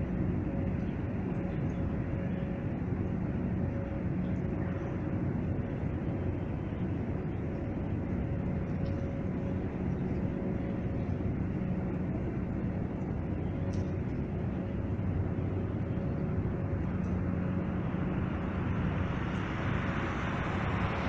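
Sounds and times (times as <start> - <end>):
faint constant hum: 0.0 - 21.0
low mechanical rumble: 0.0 - 21.0.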